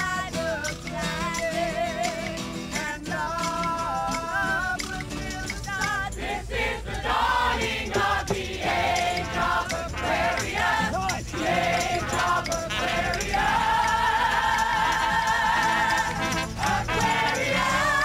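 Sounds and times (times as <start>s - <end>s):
crowd singing together: 0.0s - 18.0s.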